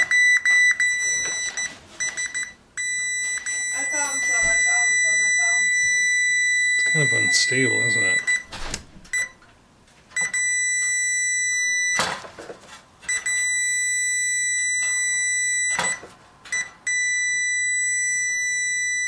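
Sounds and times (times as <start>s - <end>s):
multimeter continuity beep: 0.0s - 8.5s, 10.2s - 12.0s, 13.1s - 19.0s.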